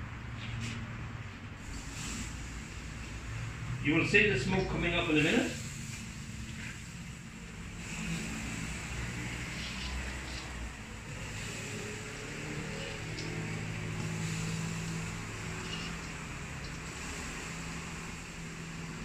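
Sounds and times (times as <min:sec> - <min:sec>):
low mechanical hum: 0:00.0 - 0:19.0
hiss: 0:01.6 - 0:19.0.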